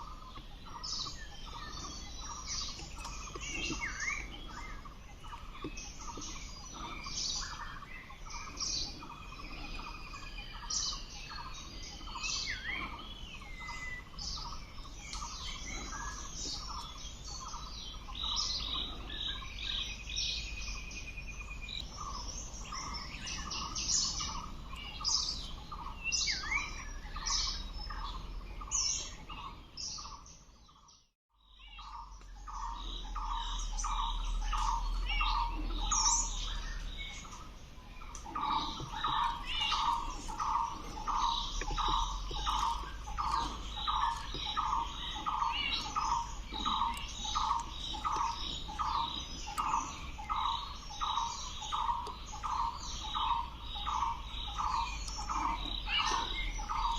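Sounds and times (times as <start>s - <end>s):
birds chirping and calling: 0.0s - 56.9s.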